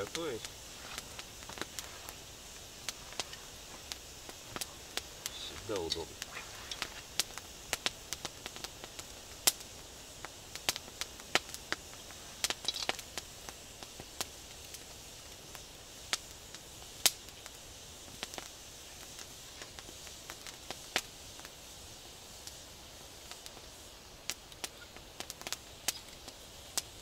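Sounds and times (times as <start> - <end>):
campfire crackling and popping: 0.0 - 27.0
faint steady hiss: 0.0 - 27.0.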